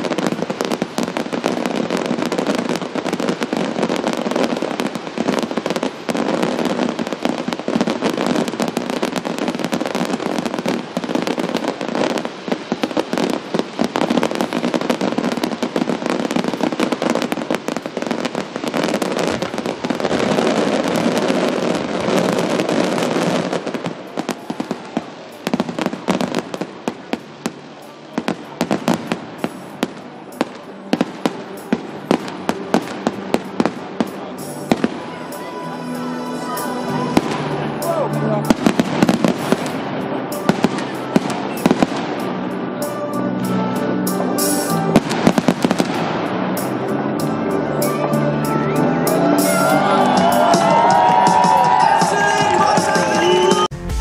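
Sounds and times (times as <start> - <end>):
fireworks crackling and banging: 0.0 - 54.0.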